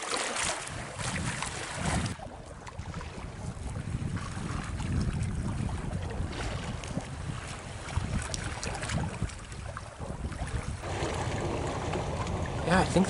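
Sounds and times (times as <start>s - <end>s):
water splashing along a hull: 0.0s - 13.0s
wind buffeting microphone: 0.4s - 13.0s.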